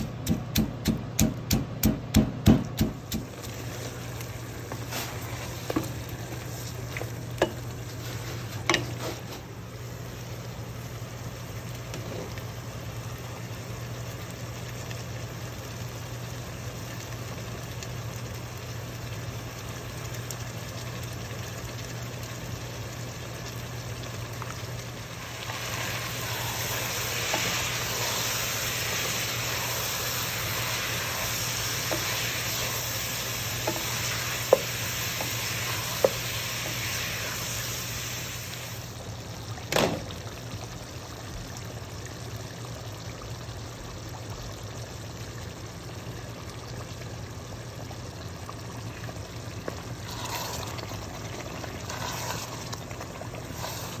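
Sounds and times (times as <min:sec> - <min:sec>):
meat sizzling in a pot: 0:00.0 - 0:54.0.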